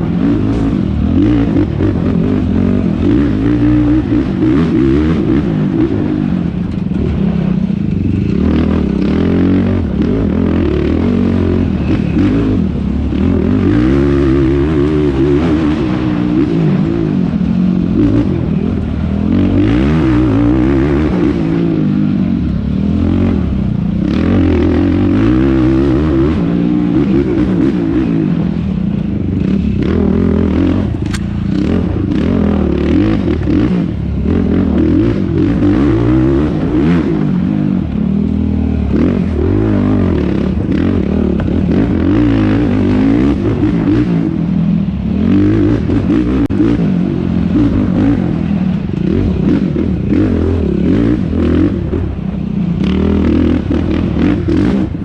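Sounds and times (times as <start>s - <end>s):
quad engine revving: 0.0s - 28.6s, 29.4s - 55.0s.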